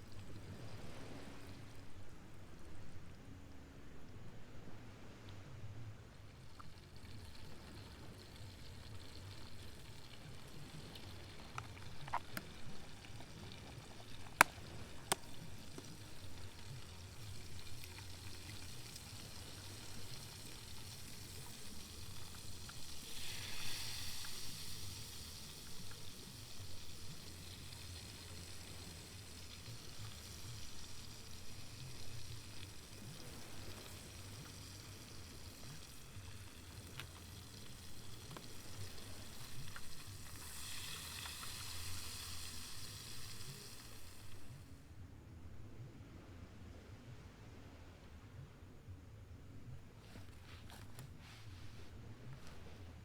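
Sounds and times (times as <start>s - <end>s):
light rain on a tent: 0.0s - 45.0s, 45.6s - 53.0s.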